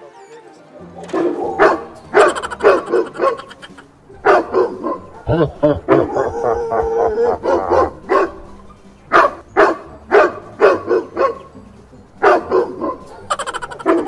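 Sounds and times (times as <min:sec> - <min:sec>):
recorded dog barking on loudspeaker: 0:01.1 - 0:11.6, 0:12.2 - 0:14.0.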